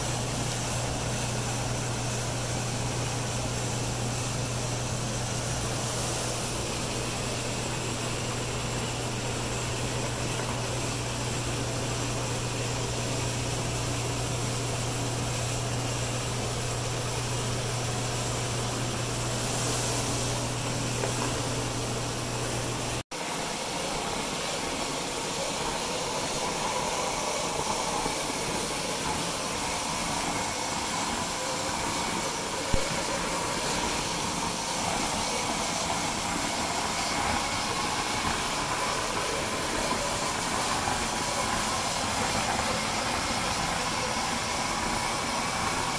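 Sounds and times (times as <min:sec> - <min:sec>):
water spray and vacuum suction hiss: 0:00.0 - 0:45.9.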